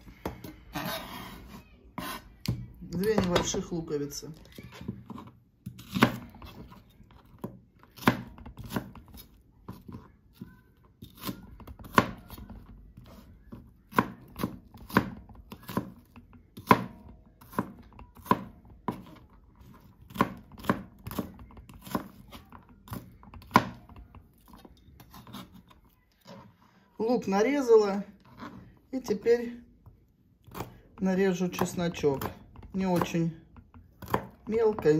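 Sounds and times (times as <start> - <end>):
knife slicing onion: 0.2 - 3.6, 4.7 - 26.5, 30.4 - 34.9.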